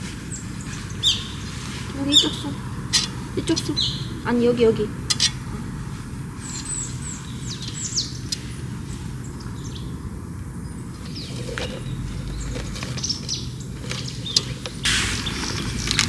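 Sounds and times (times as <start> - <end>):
low background noise: 0.0 - 16.0
small birds chirping: 0.0 - 16.0.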